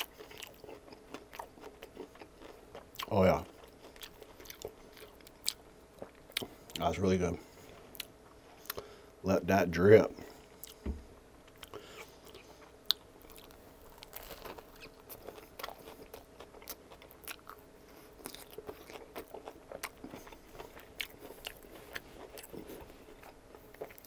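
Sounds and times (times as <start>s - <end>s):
chewing and biting sandwich: 0.0s - 6.9s, 11.5s - 24.0s.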